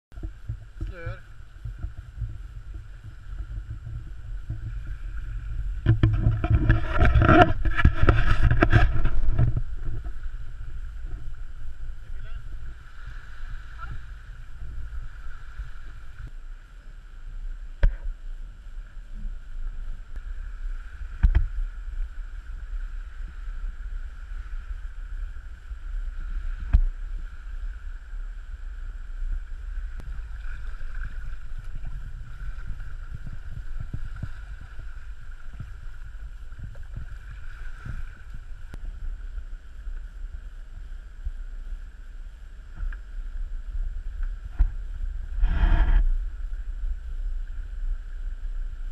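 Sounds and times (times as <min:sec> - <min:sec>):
wind rumbling on microphone: 0:00.0 - 0:48.9
water rushing past hull: 0:00.2 - 0:48.9.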